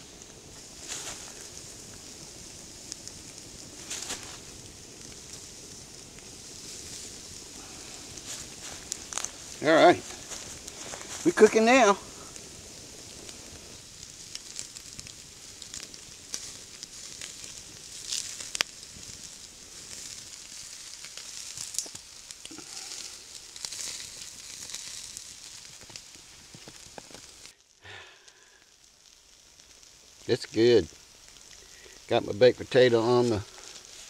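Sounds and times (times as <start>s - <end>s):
campfire crackling: 0.0s - 34.0s
sausages sizzling on grill: 0.0s - 34.0s.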